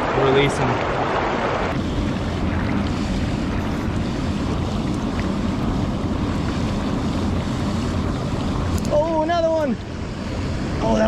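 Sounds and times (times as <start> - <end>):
stream water flowing: 0.0 - 11.0
wind rumble on microphone: 0.0 - 11.0.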